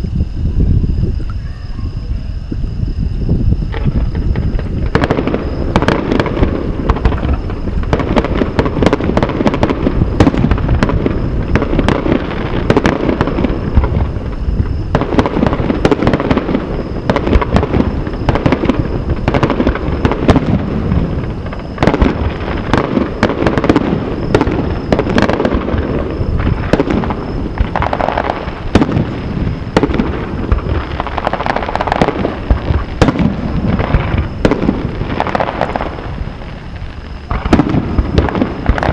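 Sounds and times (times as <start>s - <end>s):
low rumble of booms: 0.0s - 38.9s
fireworks bursting with bangs: 3.3s - 38.9s.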